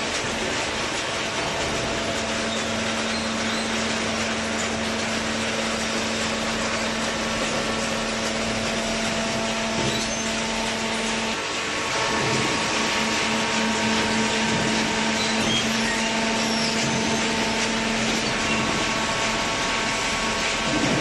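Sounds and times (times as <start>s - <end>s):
baler machine hum: 0.0s - 21.0s.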